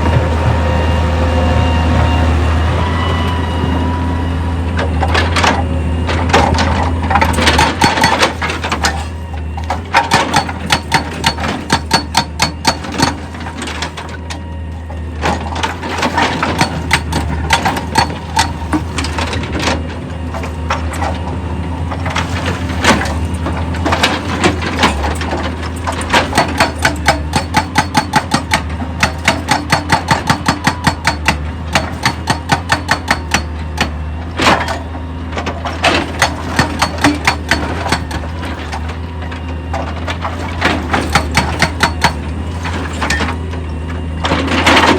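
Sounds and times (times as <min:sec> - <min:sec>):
heavy machine engine hum: 0:00.0 - 0:44.9
rocks clattering against steel: 0:05.0 - 0:14.4, 0:15.2 - 0:44.9.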